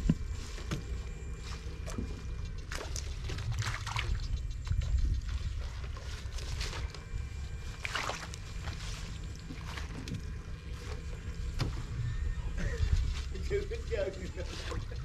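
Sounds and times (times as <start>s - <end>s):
water sloshing and splashing: 0.0s - 12.0s, 12.7s - 15.0s
low rumble: 0.0s - 15.0s.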